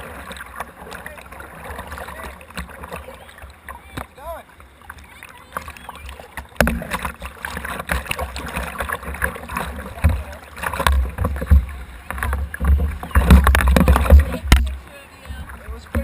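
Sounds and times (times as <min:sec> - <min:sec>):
whitewater rushing and splashing: 0:00.0 - 0:16.0.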